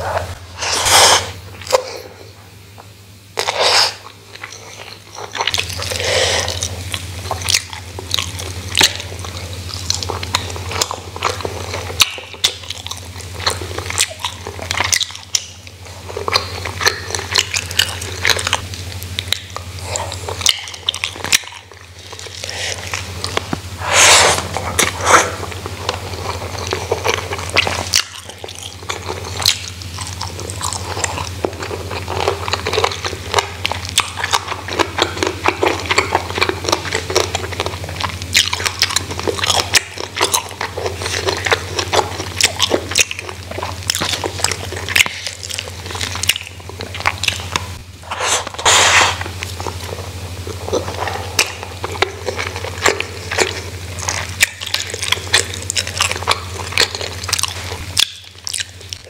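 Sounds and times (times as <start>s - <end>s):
low steady hum: 0.0s - 59.0s
person chewing food: 0.0s - 59.0s
crunching food: 2.8s - 59.0s.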